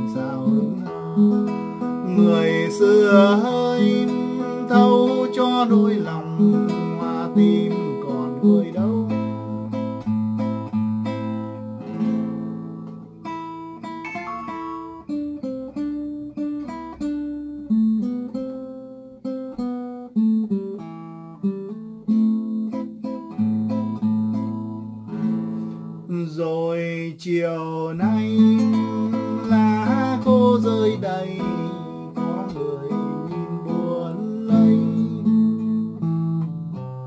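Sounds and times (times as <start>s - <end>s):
fingerstyle classical guitar: 0.0s - 37.0s.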